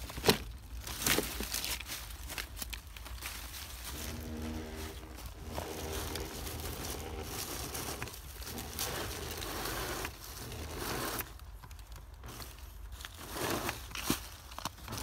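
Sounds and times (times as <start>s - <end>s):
dry leaves crunching under tyres: 0.0s - 15.0s.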